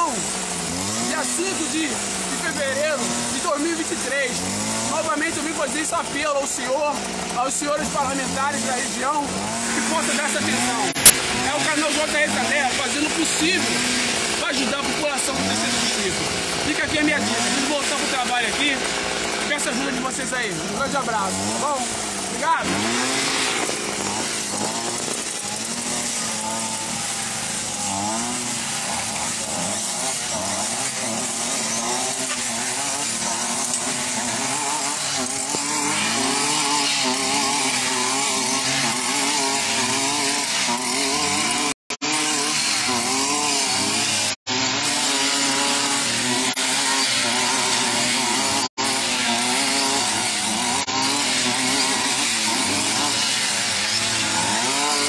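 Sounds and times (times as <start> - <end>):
brush cutter engine cutting grass: 0.0 - 55.0.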